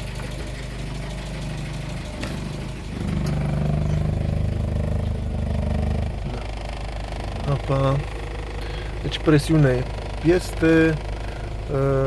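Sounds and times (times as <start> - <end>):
car engine idling: 0.0 - 12.0
engine knocking: 0.0 - 12.0.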